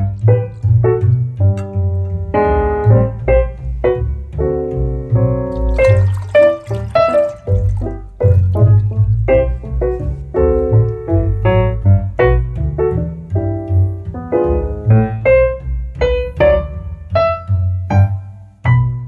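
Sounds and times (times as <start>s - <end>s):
piano music over bass: 0.0s - 19.0s.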